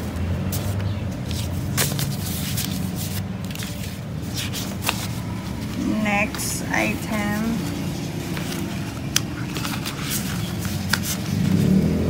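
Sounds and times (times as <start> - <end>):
paper and plastic rustling: 0.0 - 12.0.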